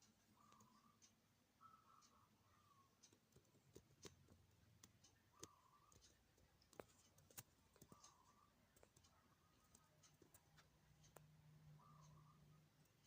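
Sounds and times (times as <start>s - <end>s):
faint scattered clicks: 0.0s - 13.0s.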